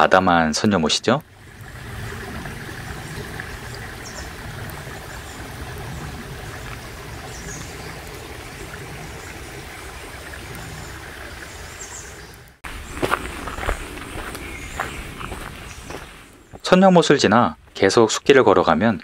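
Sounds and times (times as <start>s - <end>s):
stream trickling into pond: 0.0s - 16.6s.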